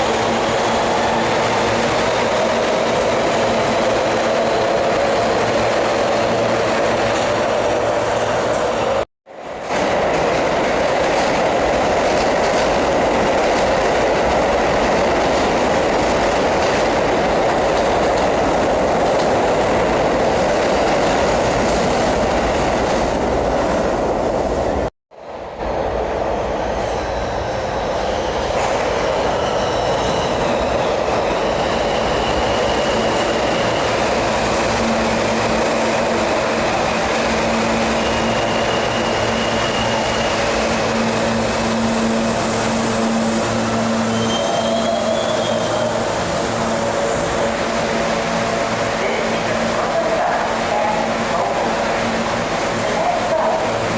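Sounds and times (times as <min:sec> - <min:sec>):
train wheels rumbling on rails: 0:00.0 - 0:24.9, 0:25.6 - 0:53.9.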